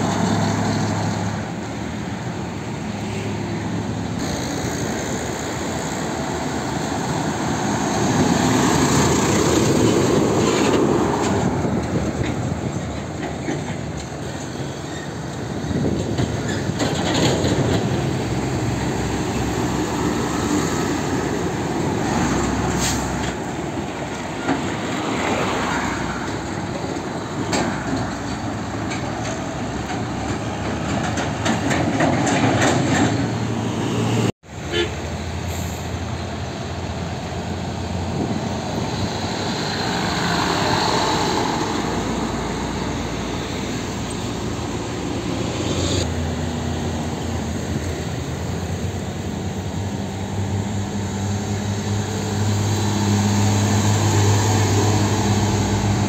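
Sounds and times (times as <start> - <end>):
trailers rattling: 0.0 - 34.6, 35.2 - 56.0
diesel trucks driving past: 0.0 - 56.0.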